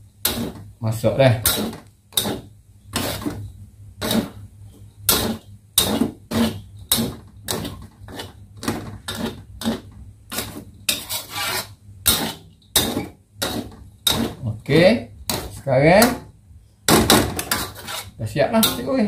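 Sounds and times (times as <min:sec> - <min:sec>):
low steady hum: 0:00.0 - 0:19.0
spatula scraping a wok: 0:00.2 - 0:00.7, 0:01.3 - 0:16.1, 0:17.4 - 0:19.0.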